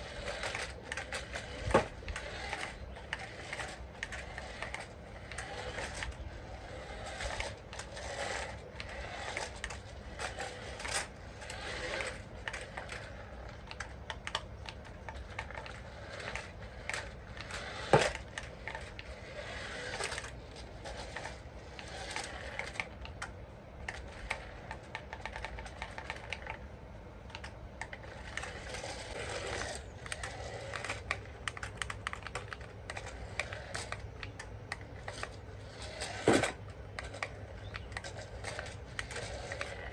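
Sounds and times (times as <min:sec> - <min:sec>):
plastic toy parts clicking and rattling: 0:00.0 - 0:39.9.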